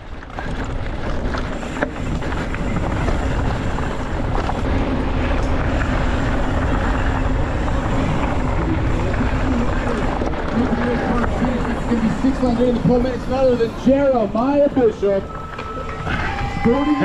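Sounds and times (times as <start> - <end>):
tyres rumbling over dirt and rocks: 0.0 - 17.0
wind buffeting microphone: 0.0 - 17.0.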